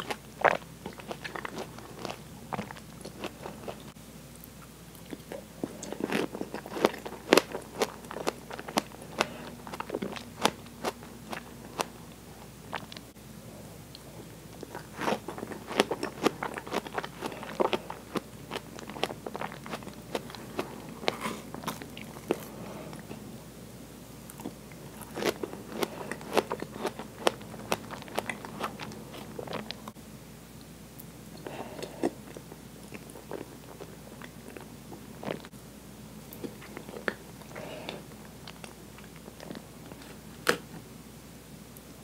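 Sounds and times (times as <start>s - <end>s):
wet chewing and mouth clicks: 0.0s - 13.1s, 13.9s - 23.1s, 24.3s - 30.0s, 31.0s - 35.5s, 36.3s - 40.7s.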